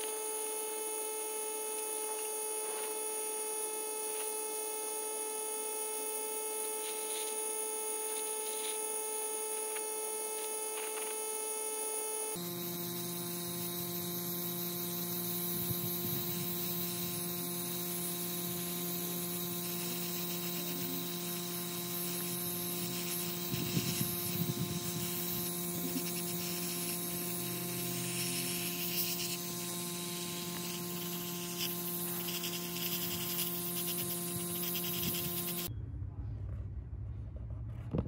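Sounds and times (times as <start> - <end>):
paint spray gun spraying: 0.0 - 35.7.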